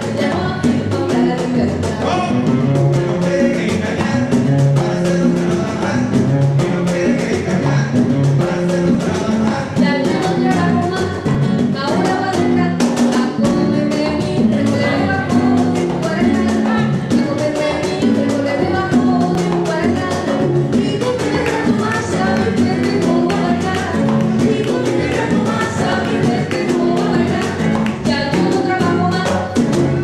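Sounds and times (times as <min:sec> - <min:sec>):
woman singing: 0:00.0 - 0:02.7, 0:08.4 - 0:30.0
upright bass: 0:00.0 - 0:30.0.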